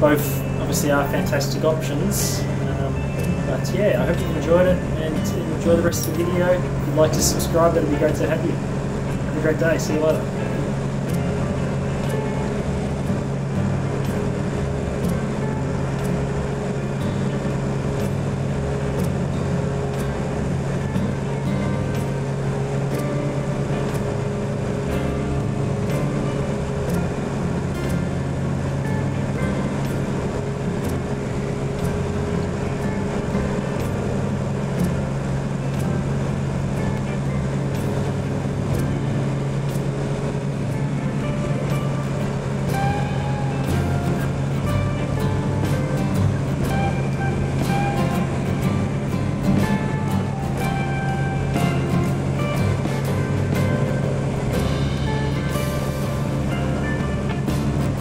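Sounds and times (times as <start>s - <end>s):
aircraft engine drone in cockpit: 0.0s - 58.0s.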